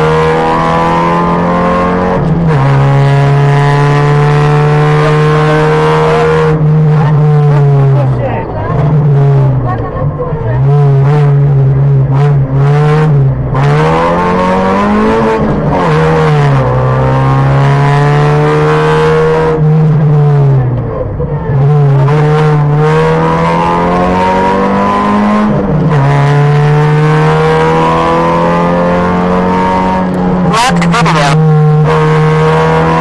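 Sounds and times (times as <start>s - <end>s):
rally car engine accelerating: 0.0s - 33.0s.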